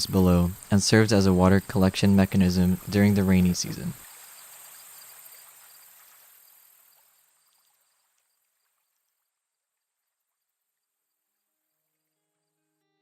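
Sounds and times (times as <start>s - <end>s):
outdoor ambience hiss: 0.0s - 13.0s.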